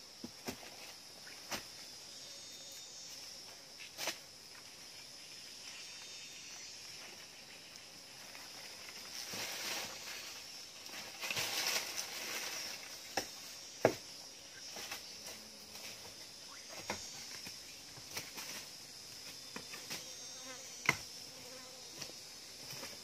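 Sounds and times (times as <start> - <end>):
high-pitched insect chorus buzzing: 0.0 - 23.0.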